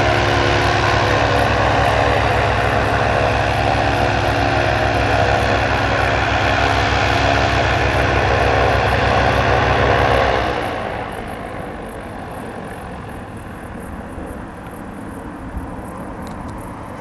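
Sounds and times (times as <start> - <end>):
propeller engines pulsing: 0.0 - 17.0
steady background noise: 0.0 - 17.0.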